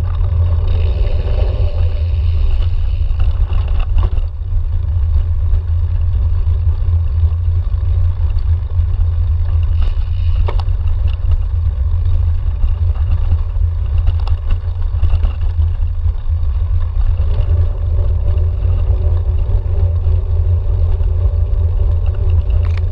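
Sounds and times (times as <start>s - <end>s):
faint steady hum: 0.0s - 22.9s
wind and vibration rumble: 0.0s - 22.9s
bike clicks and knocks: 2.2s - 22.9s.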